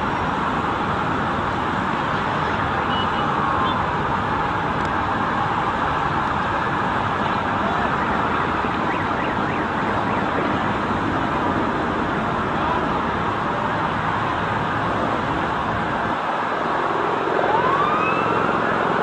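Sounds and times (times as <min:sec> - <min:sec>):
city traffic noise: 0:00.0 - 0:19.0
emergency sirens wailing: 0:00.0 - 0:19.0.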